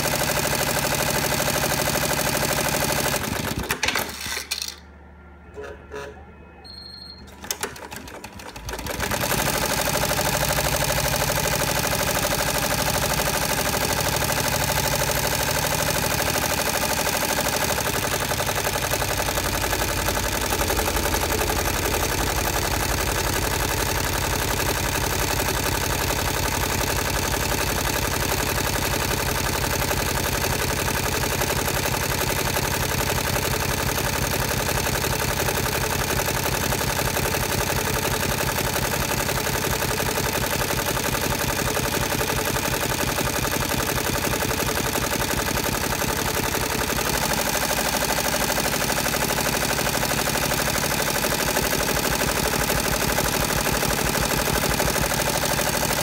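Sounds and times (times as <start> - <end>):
embroidery machine stitching: 0.0 - 4.8, 7.2 - 56.0.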